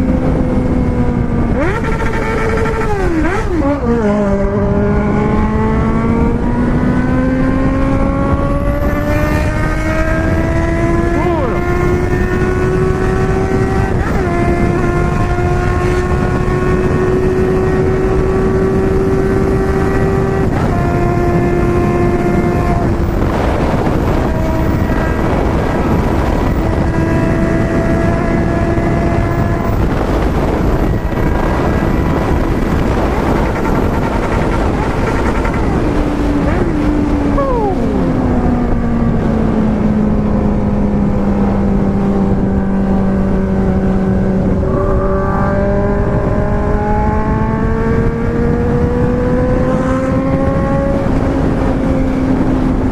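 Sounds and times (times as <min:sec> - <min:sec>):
car engine running at high revs: 0:00.0 - 0:52.9.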